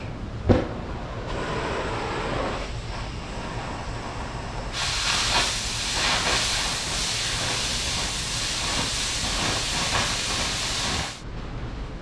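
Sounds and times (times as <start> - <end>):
cutting torch hissing: 1.3 - 11.2.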